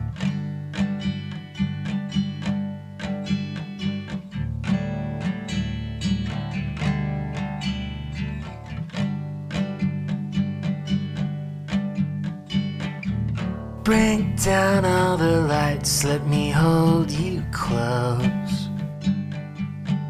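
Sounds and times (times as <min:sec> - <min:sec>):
acoustic guitar picking and strumming: 0:00.0 - 0:20.0.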